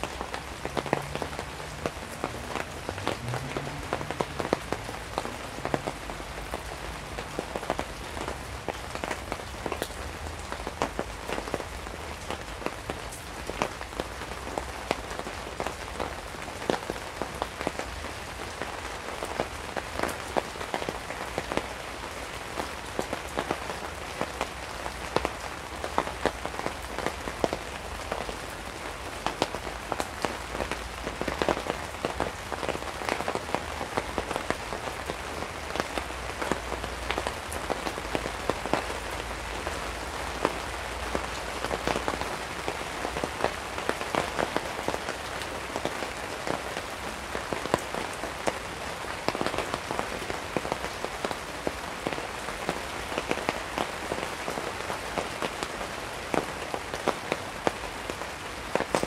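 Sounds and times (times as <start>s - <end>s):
heavy rain on a tarp: 0.0s - 59.0s.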